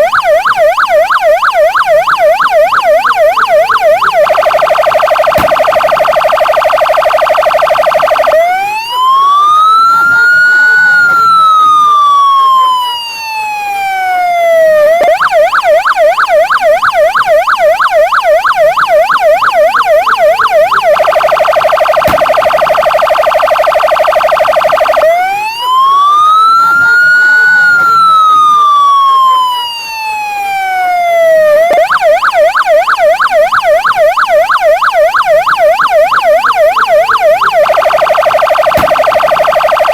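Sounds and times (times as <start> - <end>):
police siren wailing and yelping: 0.0 - 39.9.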